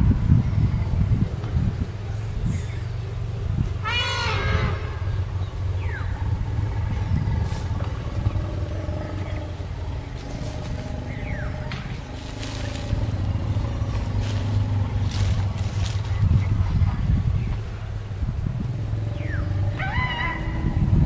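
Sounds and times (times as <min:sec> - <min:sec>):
elephants rumbling: 0:00.0 - 0:21.0.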